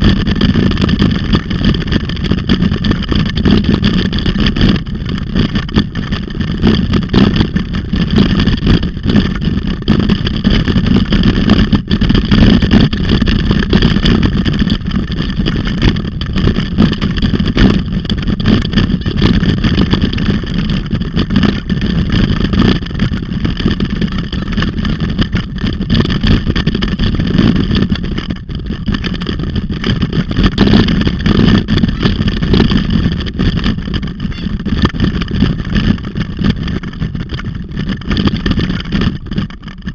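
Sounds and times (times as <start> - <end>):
bicycle tyres rolling and rattling: 0.0 - 39.9
wind rumble: 0.0 - 39.9.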